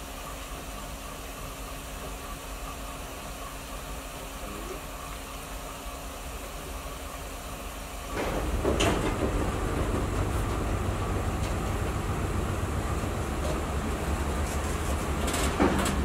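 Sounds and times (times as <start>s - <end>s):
diesel locomotive idling: 0.0s - 16.0s.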